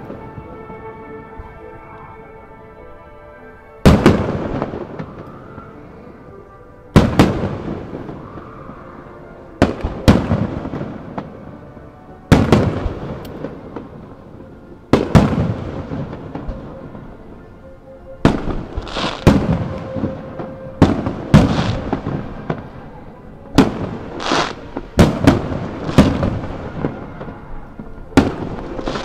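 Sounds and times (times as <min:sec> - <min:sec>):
music playing: 0:00.0 - 0:29.0.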